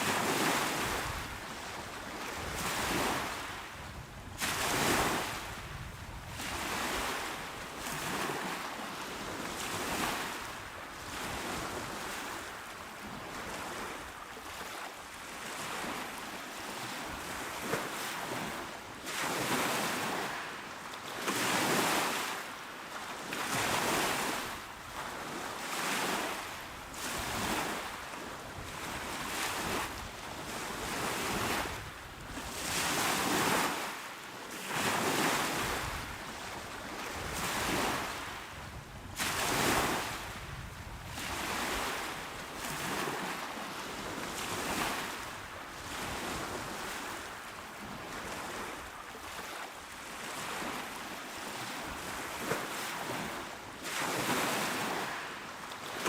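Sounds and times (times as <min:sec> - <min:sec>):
small waves breaking on shore: 0:00.0 - 0:56.0.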